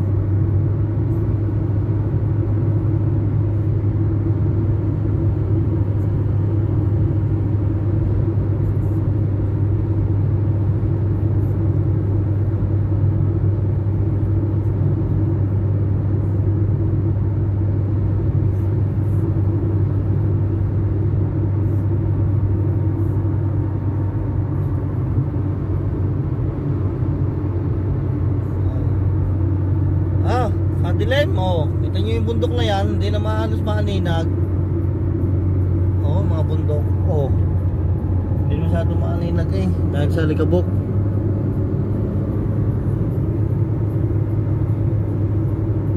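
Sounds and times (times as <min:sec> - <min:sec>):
motor vehicle engine rumble: 0:00.0 - 0:45.9.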